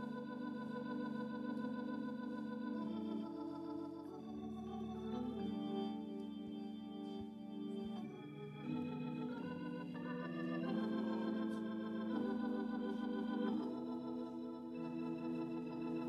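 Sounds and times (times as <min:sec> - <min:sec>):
organ playing chords: 0:00.0 - 0:16.0.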